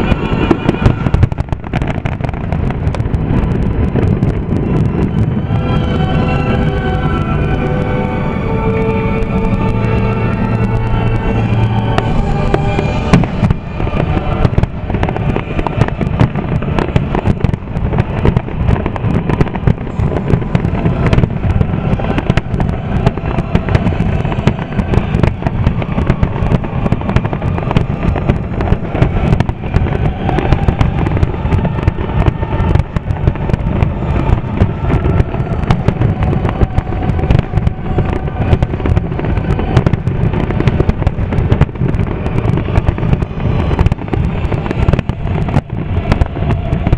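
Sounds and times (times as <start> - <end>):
fireworks bursts and crackling bangs: 0.0 - 46.9
heavy low rumble: 0.0 - 46.9.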